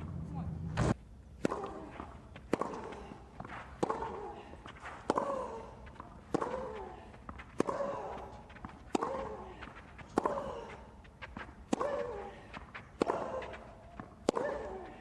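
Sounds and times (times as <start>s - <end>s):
tennis ball hit with rackets: 0.8s - 10.6s, 11.2s - 15.0s.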